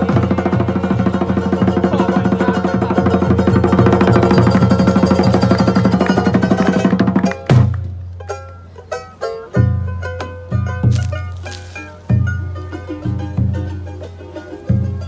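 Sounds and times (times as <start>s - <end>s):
fast-strummed string music: 0.0s - 15.0s.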